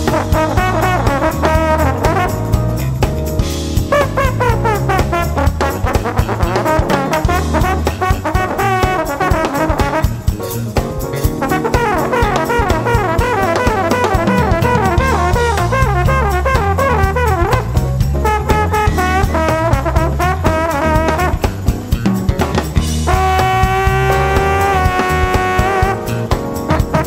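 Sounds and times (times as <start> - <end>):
jazz-funk band playing: 0.0 - 27.0
trombone solo: 0.0 - 27.0.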